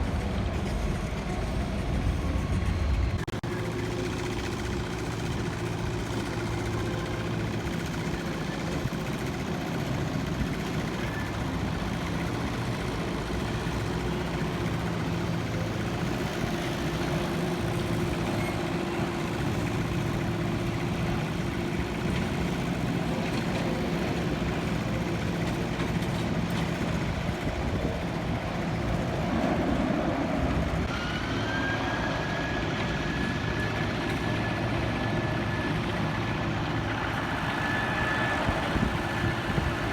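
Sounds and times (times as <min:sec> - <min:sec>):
high engine whine: 0:00.0 - 0:39.9
jet engines humming: 0:00.0 - 0:39.9.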